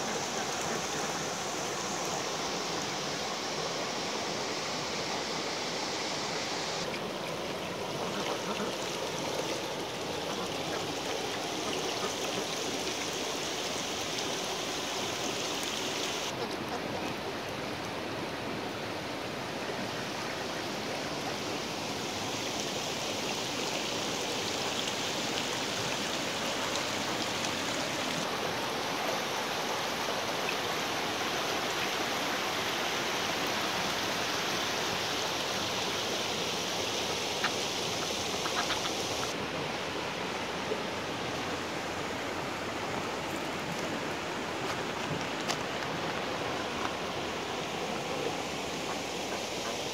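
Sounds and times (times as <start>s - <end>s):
river running over stones: 0.0s - 49.9s.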